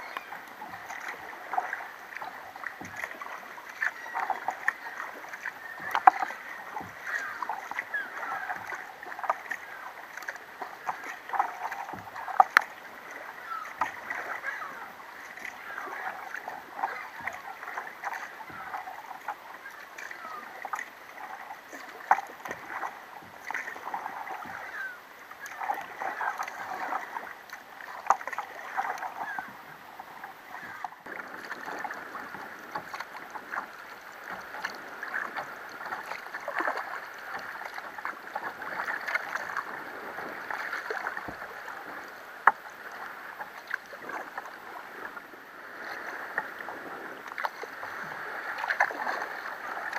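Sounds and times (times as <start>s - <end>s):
sharp water splashes: 0.0s - 41.8s, 45.7s - 49.9s
water lapping against kayak hull: 0.0s - 49.9s.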